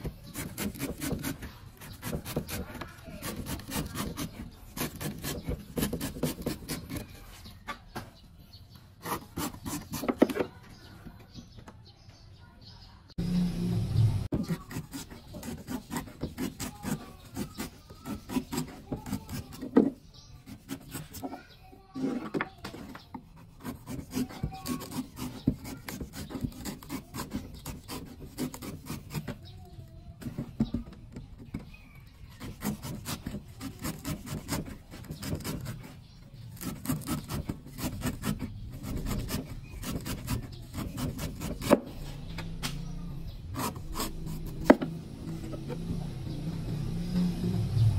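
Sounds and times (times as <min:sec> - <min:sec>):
knife shaving coconut husk: 0:00.0 - 0:07.4, 0:09.0 - 0:10.5, 0:14.3 - 0:30.5, 0:32.2 - 0:42.2, 0:42.8 - 0:47.7.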